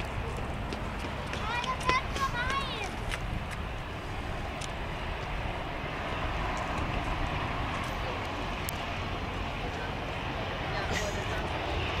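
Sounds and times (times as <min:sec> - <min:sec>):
jet engines rumbling at taxi power: 0:00.0 - 0:12.0.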